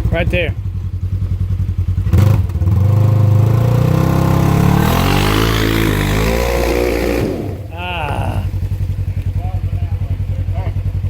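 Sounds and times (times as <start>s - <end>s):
vehicle engine revving under load: 0.0s - 11.0s.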